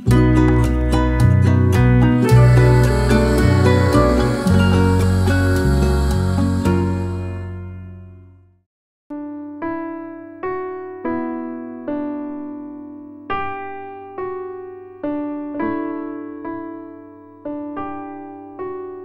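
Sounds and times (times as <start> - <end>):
slow electric piano melody: 0.0 - 8.1, 9.1 - 19.0.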